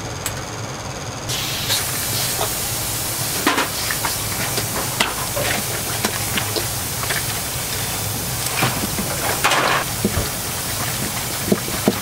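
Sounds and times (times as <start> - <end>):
steady low hum: 0.0 - 12.0
food sizzling in a wok: 1.3 - 12.0.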